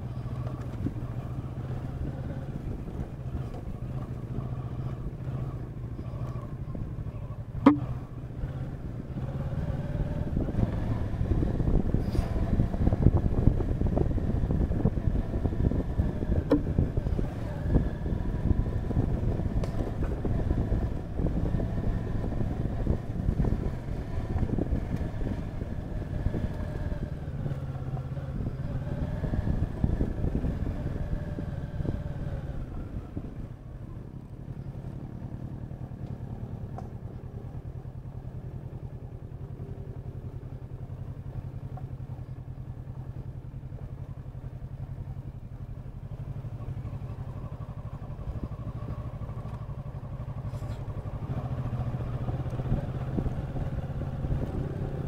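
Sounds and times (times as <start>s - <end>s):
motorcycle engine: 0.0s - 55.0s
rough noisy rumble: 0.0s - 55.0s.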